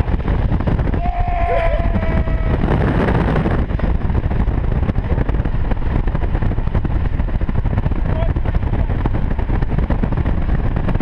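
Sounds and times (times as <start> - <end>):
road noise: 0.0 - 11.0
wind buffeting open car window: 0.0 - 11.0.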